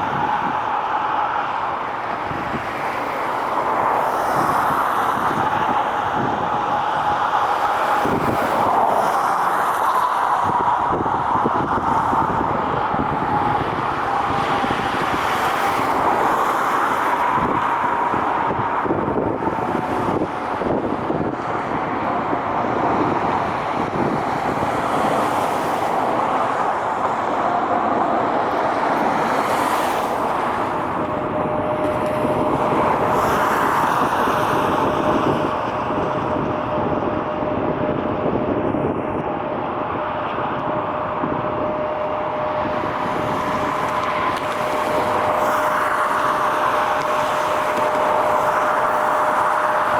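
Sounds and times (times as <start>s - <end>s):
jet engines whining: 0.0s - 49.9s
road traffic: 0.0s - 49.9s.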